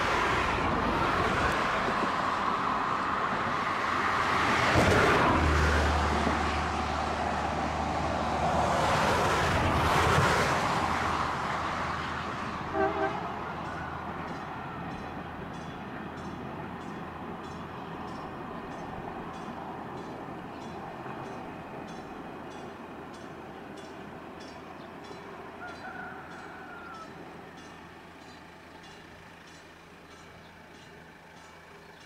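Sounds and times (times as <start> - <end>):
diesel railcar engine and wheels: 0.0 - 32.0.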